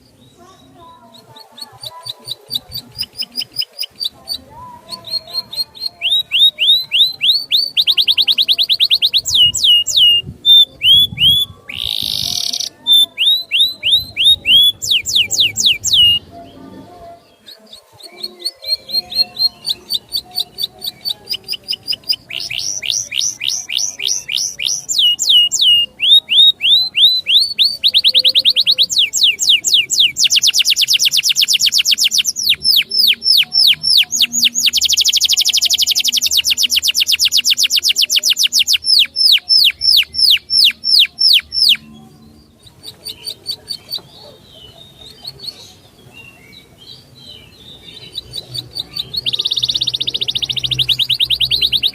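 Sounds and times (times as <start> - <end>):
songbird singing trills: 0.0 - 51.9.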